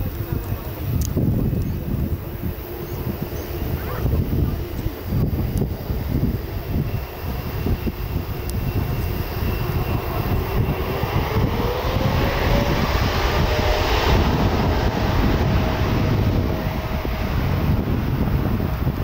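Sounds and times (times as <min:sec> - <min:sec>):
jet engines spooling up: 0:00.0 - 0:19.0.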